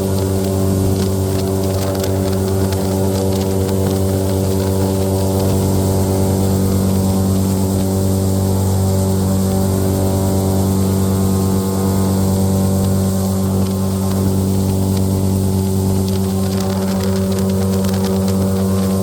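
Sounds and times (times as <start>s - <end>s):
airboat engine and propeller drone: 0.0s - 19.0s
wind and spray hissing: 0.0s - 19.0s.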